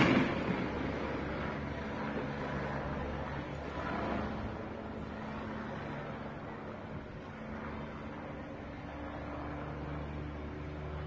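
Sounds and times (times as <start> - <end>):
city background noise: 0.0 - 11.0
low engine drone: 0.0 - 11.0.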